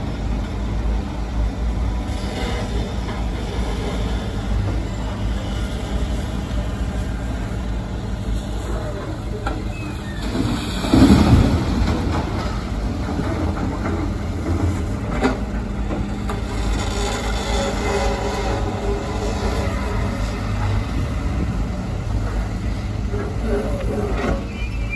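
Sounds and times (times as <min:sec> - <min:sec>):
dump truck diesel engines rumbling: 0:00.0 - 0:24.9.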